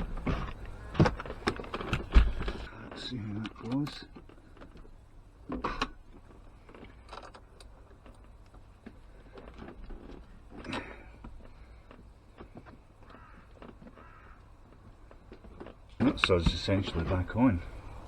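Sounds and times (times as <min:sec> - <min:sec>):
parts knocking and clicking: 0:00.0 - 0:18.0.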